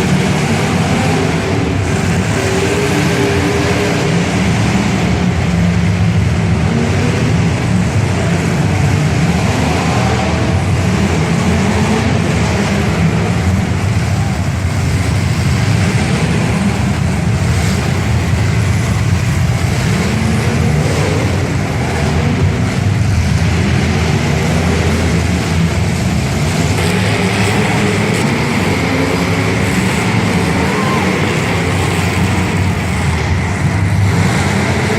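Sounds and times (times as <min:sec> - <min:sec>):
car engines revving: 0:00.0 - 0:34.9.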